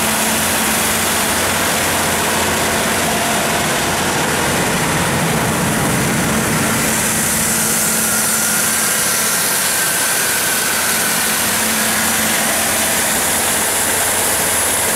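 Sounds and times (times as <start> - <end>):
diesel generator engine drone: 0.0 - 14.9.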